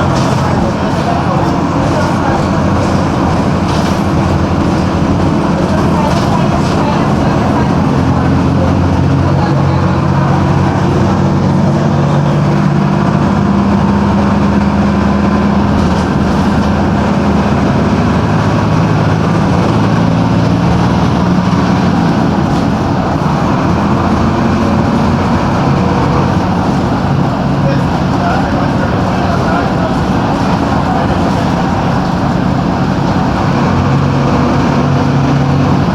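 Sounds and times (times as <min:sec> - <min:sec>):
bus diesel engine running: 0:00.0 - 0:35.9.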